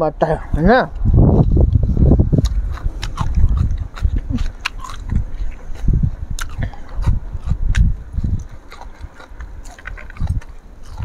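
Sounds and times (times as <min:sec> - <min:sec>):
wind buffeting microphone: 0:00.0 - 0:11.0
chewing with mouth clicks: 0:01.7 - 0:11.0.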